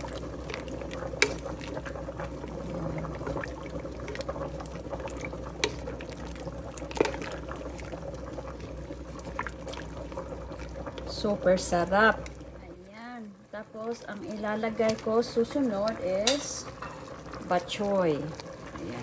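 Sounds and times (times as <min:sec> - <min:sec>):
soup boiling in a pot: 0:00.0 - 0:19.0.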